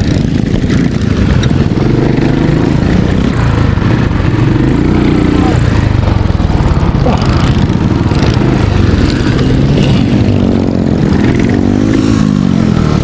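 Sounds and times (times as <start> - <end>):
motorcycle engine revving: 0.0 - 13.0
other motorcycles running: 0.0 - 13.0.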